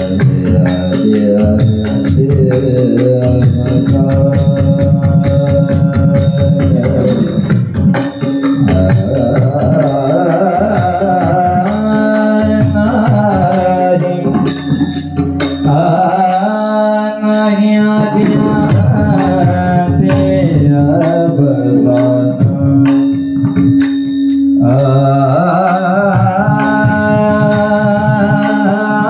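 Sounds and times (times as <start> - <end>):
devotional melody: 0.0 - 29.0
drum beats: 0.0 - 29.0
small hand cymbals: 0.0 - 29.0.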